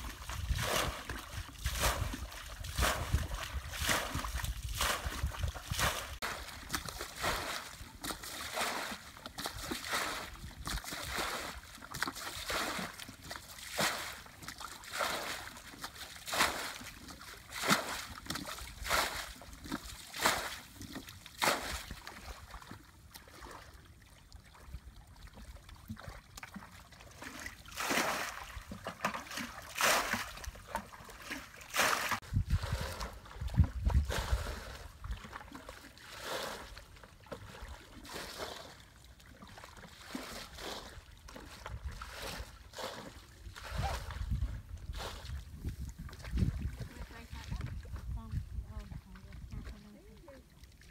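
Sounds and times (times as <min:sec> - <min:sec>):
muddy water splashing: 0:00.0 - 0:50.9.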